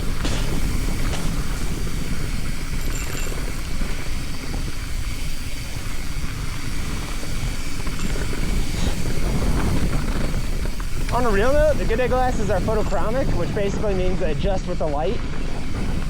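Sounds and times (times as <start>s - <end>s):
bike tyre and frame noise: 0.0s - 16.0s
wind rumble on microphone: 0.0s - 16.0s.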